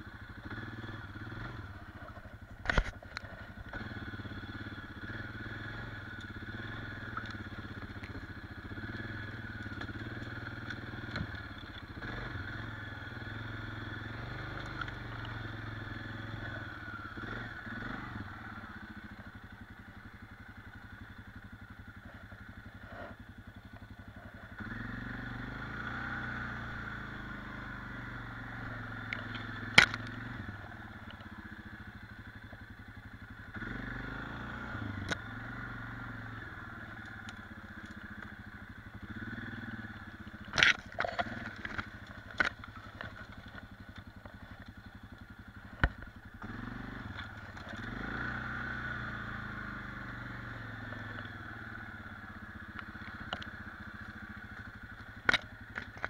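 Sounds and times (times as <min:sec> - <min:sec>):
quad engine revving: 0:00.0 - 0:21.1, 0:21.9 - 0:32.7, 0:33.3 - 0:56.0.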